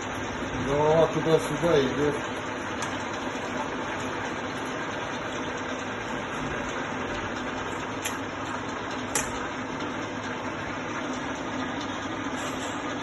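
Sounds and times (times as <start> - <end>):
milling machine motor humming: 0.0 - 13.0.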